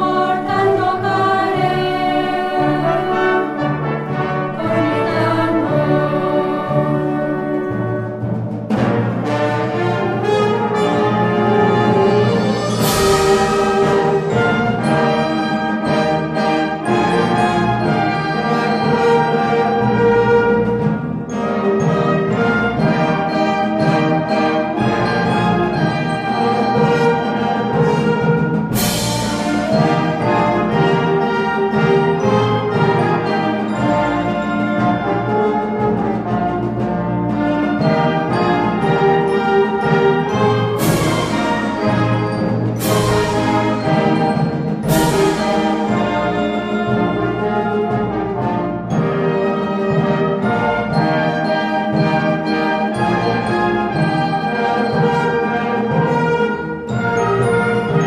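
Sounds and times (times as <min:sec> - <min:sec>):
orchestral music with brass: 0:00.0 - 0:58.0.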